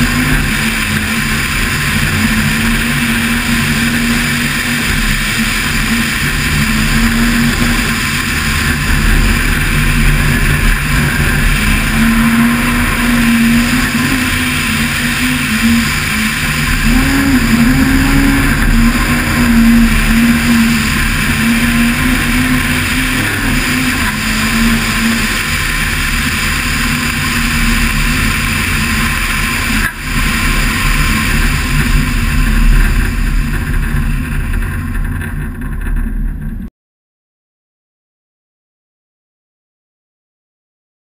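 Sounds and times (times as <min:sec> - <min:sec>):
car engine revving high: 0:00.0 - 0:34.8
wind and tyre noise: 0:00.0 - 0:36.7.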